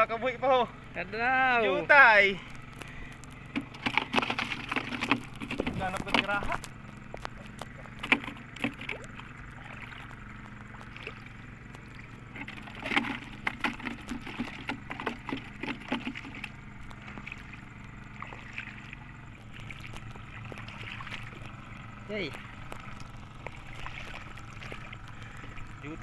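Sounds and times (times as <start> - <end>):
seawater splashing: 0.0 - 26.0
steady low hum: 0.0 - 26.0.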